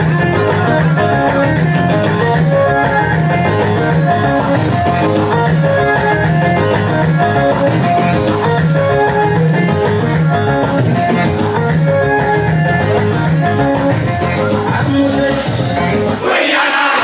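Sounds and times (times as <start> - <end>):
dance music: 0.0 - 17.0.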